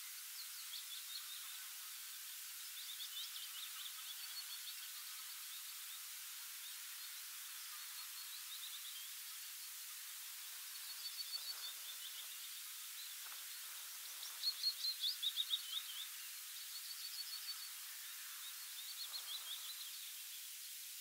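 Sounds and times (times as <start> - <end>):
background hiss: 0.0 - 21.0
songbird singing: 0.0 - 21.0.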